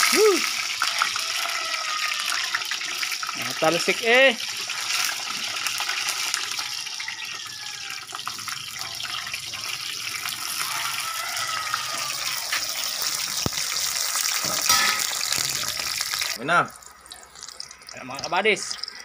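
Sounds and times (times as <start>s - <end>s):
frying sizzle with oil spattering: 0.0s - 19.0s.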